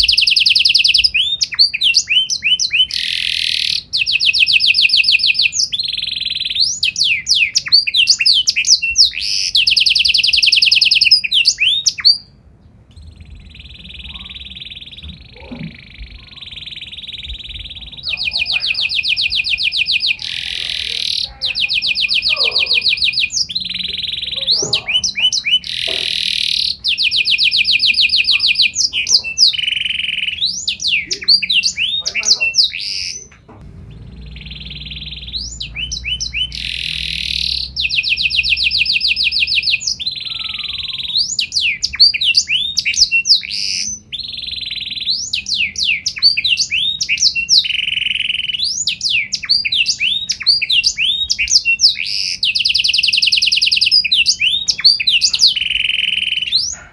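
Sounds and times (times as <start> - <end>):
canary singing: 0.0 - 56.9.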